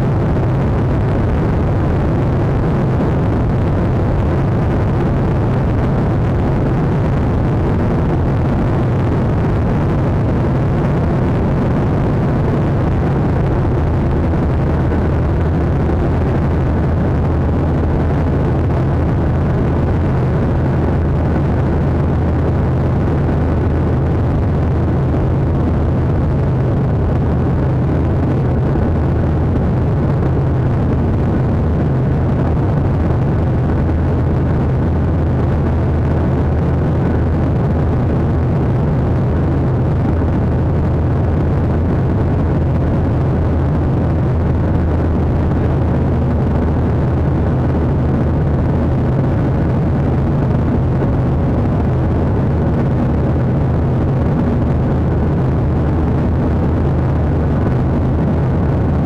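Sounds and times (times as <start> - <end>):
deep even hum: 0.0 - 59.0
jet engine drone: 0.0 - 59.0
rushing air: 0.0 - 59.0.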